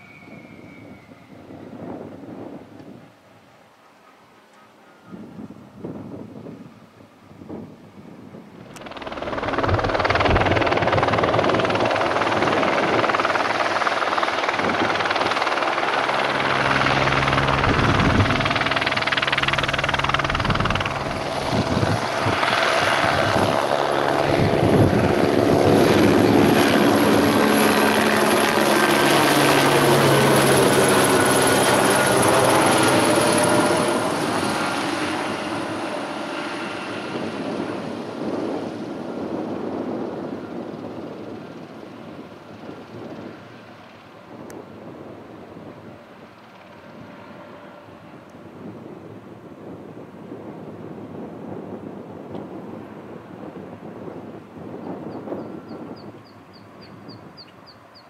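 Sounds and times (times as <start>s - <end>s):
helicopter flying past: 8.5s - 58.0s.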